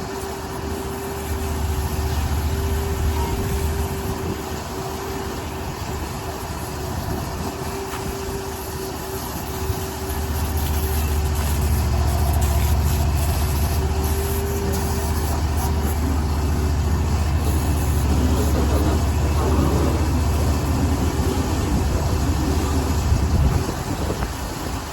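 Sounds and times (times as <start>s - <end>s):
engine running: 0.0s - 24.9s.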